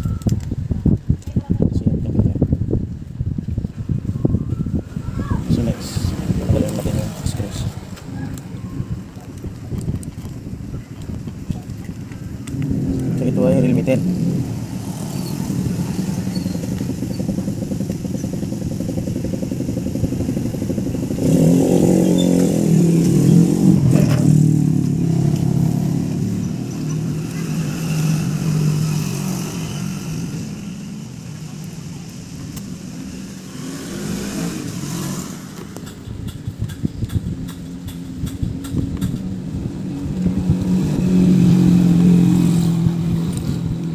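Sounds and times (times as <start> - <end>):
motorcycle engine running: 5.5 - 43.9.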